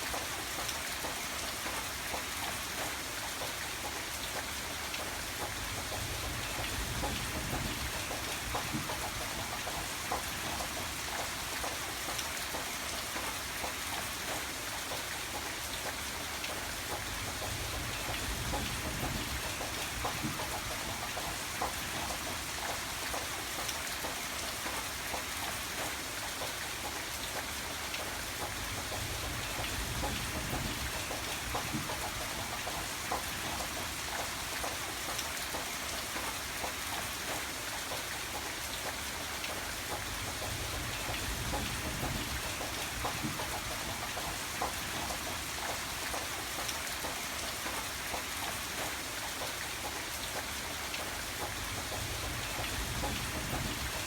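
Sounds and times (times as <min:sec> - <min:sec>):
raindrops ticking: 0:00.0 - 0:54.0
steady rain hiss: 0:00.0 - 0:54.0.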